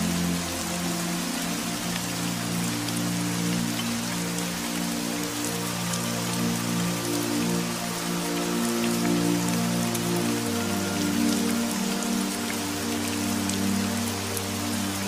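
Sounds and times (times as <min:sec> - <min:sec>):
rain falling: 0:00.0 - 0:15.0
soft ambient music: 0:00.0 - 0:15.0.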